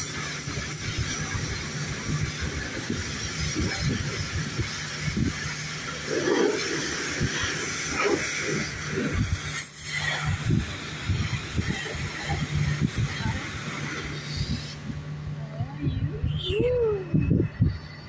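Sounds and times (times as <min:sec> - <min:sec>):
hiss: 0:00.0 - 0:15.0
forklift humming: 0:00.0 - 0:18.0.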